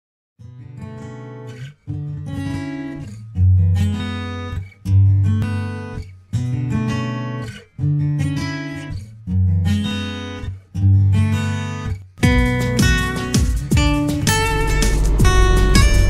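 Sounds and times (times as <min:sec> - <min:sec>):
acoustic guitar strumming chords: 0:00.5 - 0:16.0.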